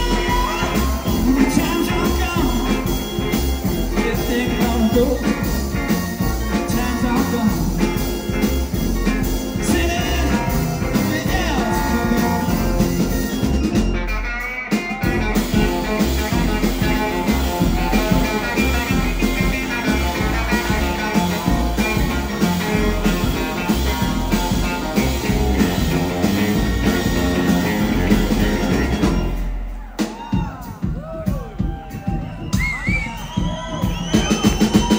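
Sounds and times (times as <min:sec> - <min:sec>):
electric guitar: 0:00.0 - 0:29.7
upright bass: 0:00.0 - 0:29.8
drums: 0:00.0 - 0:34.9.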